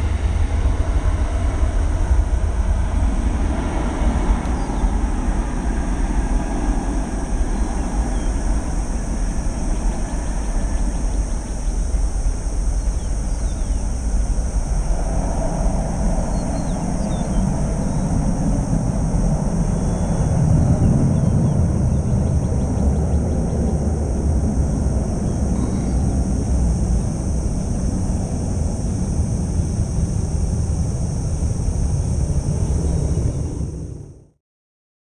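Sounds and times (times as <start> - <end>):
high-pitched hum: 0.0 - 34.4
jet engines rumbling: 0.0 - 34.4.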